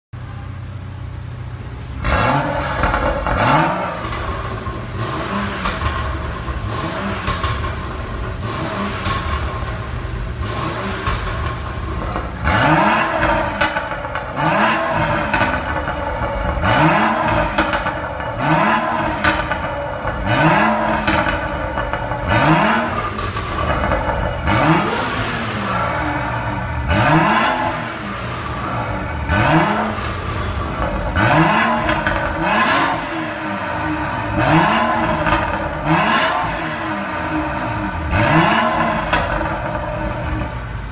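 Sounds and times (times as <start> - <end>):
car engine revving: 1.9 - 40.9.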